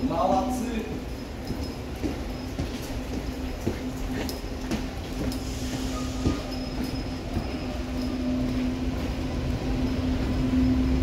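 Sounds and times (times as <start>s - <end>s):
metro car rumble: 0.0s - 11.0s.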